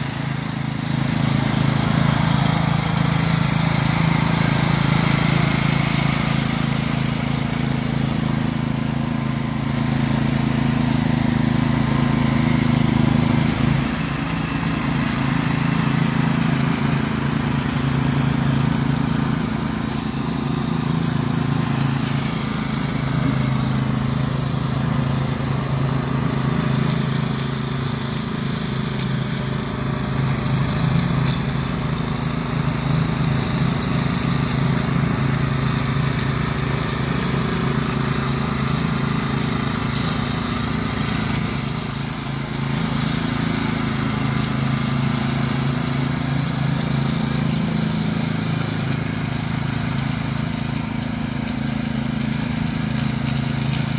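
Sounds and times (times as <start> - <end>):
riding mower engine running: 0.0 - 53.9.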